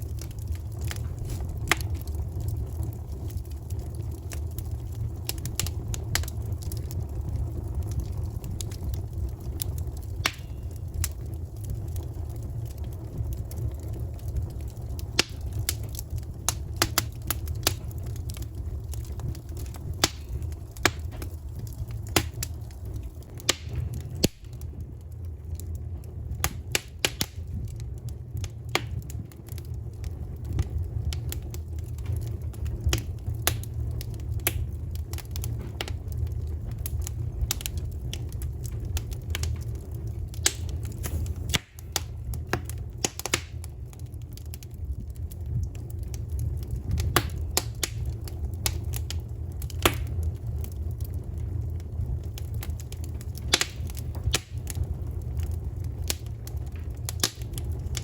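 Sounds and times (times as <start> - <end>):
fire pops and snaps: 0.0 - 58.0
low steady rumble: 0.0 - 58.0
wood fire crackling: 0.0 - 58.0.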